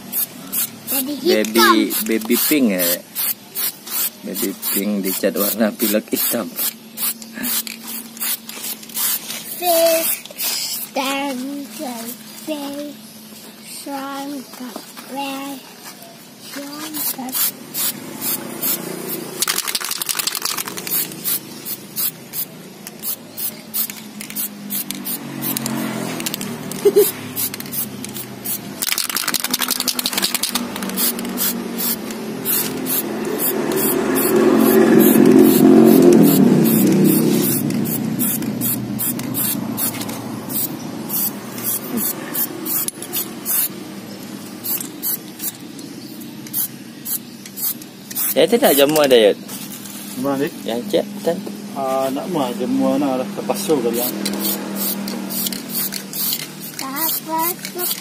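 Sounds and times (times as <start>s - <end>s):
spray can hissing bursts: 0.0s - 12.2s, 16.6s - 43.8s, 44.4s - 45.6s, 46.4s - 50.5s, 53.9s - 58.0s.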